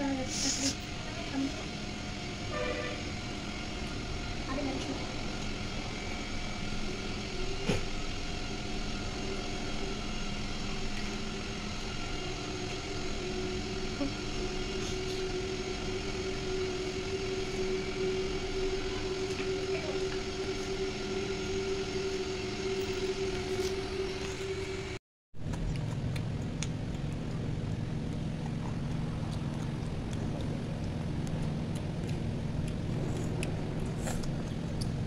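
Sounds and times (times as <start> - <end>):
motor hum: 0.0 - 35.0.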